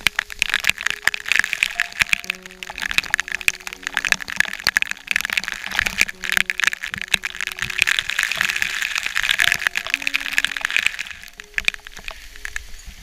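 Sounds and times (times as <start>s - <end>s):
water drops hitting camera: 0.0s - 12.7s
falling water hiss: 0.0s - 13.0s
soft background music: 0.0s - 13.0s.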